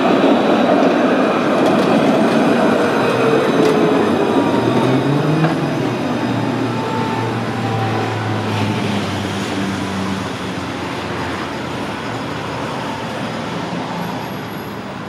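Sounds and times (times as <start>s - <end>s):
tram rumbling past: 0.0s - 15.0s.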